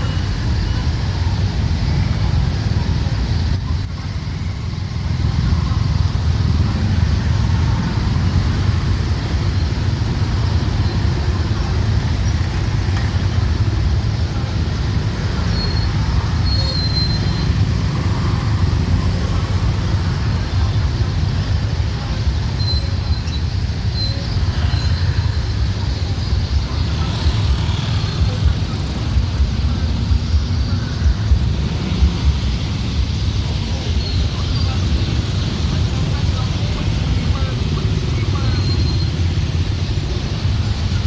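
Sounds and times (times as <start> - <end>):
traffic engines rumbling: 0.0 - 41.0.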